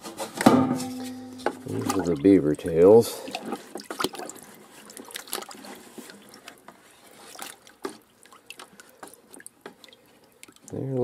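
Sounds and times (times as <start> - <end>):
liquid sloshing in plastic bucket: 0.1 - 11.0
drips and splashes: 0.9 - 11.0.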